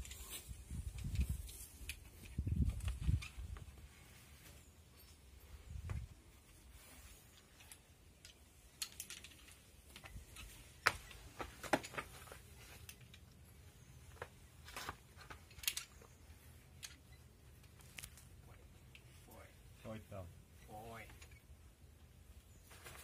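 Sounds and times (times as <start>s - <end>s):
rope and carabiners clicking: 0.0s - 19.1s.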